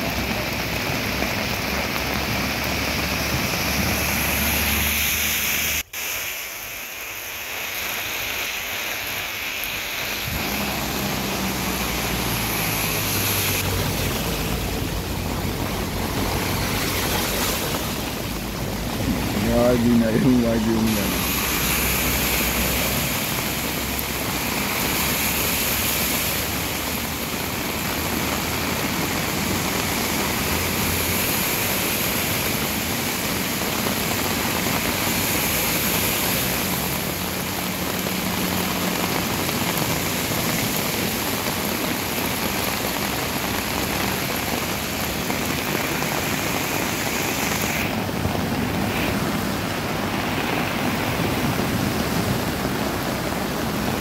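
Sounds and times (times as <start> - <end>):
heavy downpour hissing: 0.0 - 54.0
rushing floodwater: 0.0 - 54.0.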